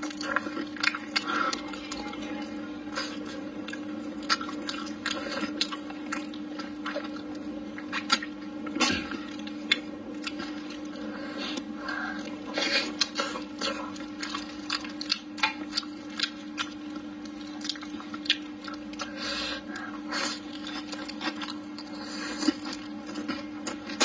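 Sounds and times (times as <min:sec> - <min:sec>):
person chewing and lip-smacking: 0:00.0 - 0:24.0
steady hum: 0:00.0 - 0:24.0.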